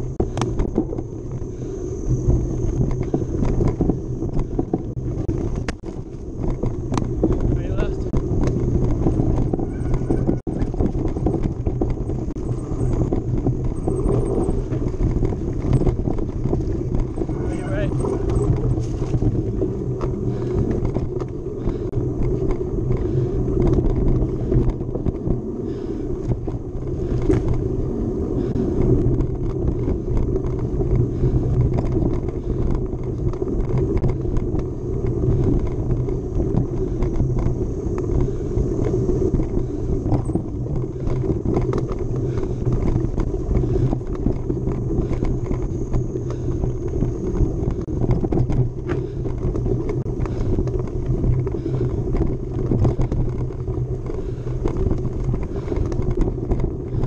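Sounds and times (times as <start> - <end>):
bike knocks and rattles: 0.0 - 57.0
tyres rumbling on dirt: 0.0 - 57.0.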